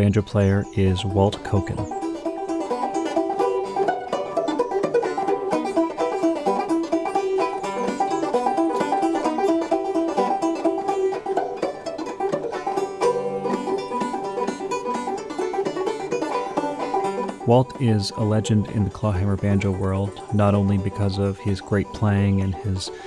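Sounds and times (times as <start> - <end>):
banjo playing: 0.0 - 23.0.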